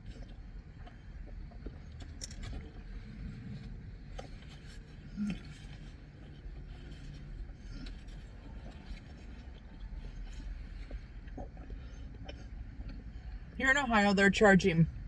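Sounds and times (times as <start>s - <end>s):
chewing crusty sandwich: 0.0s - 13.4s
faint clicks and smacks: 0.0s - 13.6s
low car cabin rumble: 0.0s - 15.0s.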